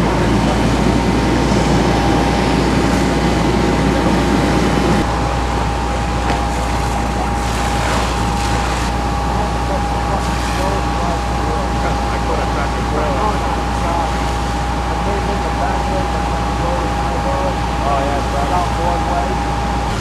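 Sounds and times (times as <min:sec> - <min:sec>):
fire engines rumbling: 0:00.0 - 0:20.0
thin constant whine: 0:00.0 - 0:20.0.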